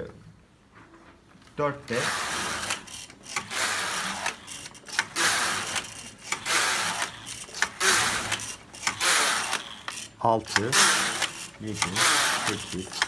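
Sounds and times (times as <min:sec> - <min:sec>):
knitting machine carriage rattling: 0:01.9 - 0:13.0.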